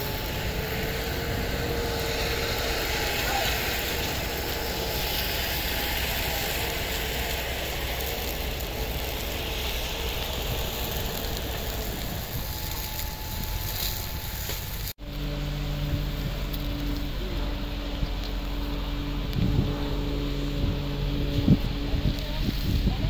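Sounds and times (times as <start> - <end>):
steady rushing noise: 0.0 - 23.0
truck engine humming: 0.0 - 23.0.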